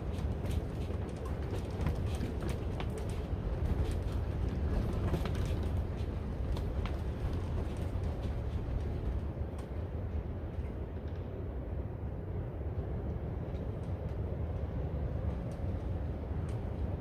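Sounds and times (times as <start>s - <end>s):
deep rumble of wind: 0.0s - 17.0s.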